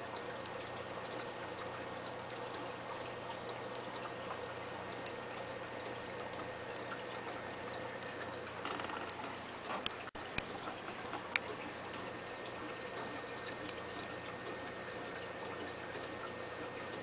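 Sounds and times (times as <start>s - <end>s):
aquarium filter water splashing: 0.0s - 17.0s.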